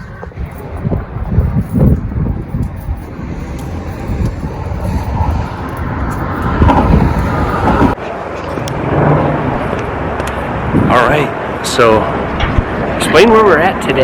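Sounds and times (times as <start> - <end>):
wind buffeting microphone: 0.0 - 13.6
highway traffic: 0.0 - 14.0.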